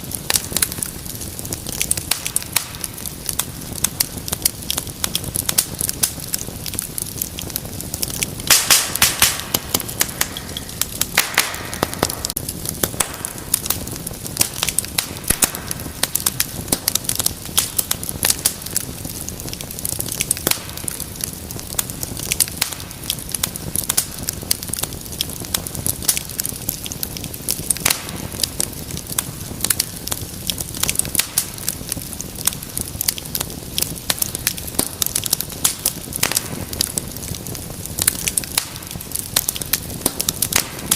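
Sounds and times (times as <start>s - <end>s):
low rush of burning: 0.0s - 40.9s
wood fire crackling and popping: 0.0s - 40.9s.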